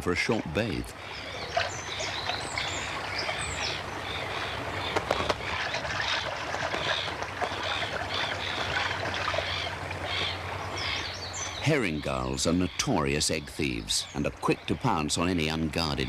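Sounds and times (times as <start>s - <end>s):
colony birds calling: 0.0s - 16.0s
water splashing: 0.0s - 16.0s.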